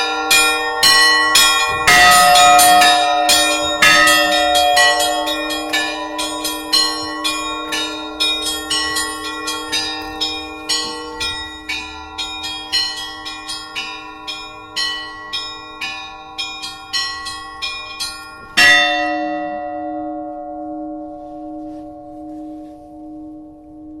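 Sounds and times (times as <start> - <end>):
deep bell tone: 0.0 - 24.0
slow pulsing bell hum: 0.0 - 24.0
small church bells ringing: 0.0 - 24.0.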